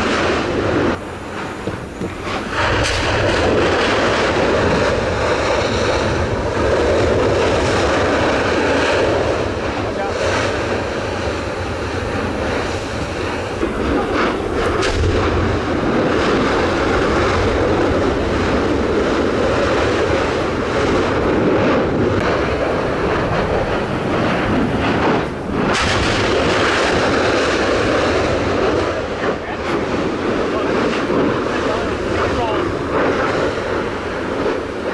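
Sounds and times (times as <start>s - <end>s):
sharp volcanic blasts: 0.0s - 34.9s
volcanic eruption roar: 0.0s - 34.9s.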